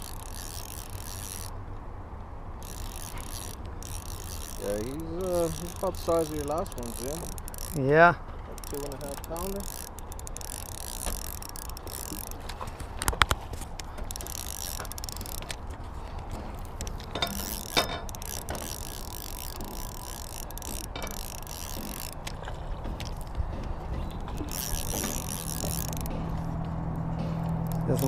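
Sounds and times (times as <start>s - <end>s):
fishing reel ratchet clicking: 0.0s - 1.6s, 2.6s - 23.4s, 24.0s - 26.5s, 27.4s - 28.0s.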